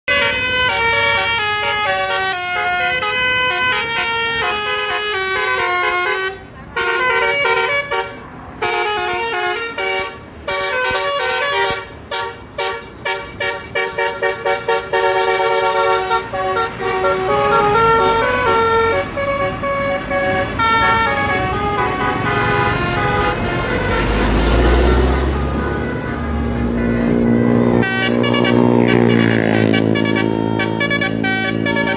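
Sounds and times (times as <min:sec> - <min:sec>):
multi-tone bus air horns: 0:00.0 - 0:31.9.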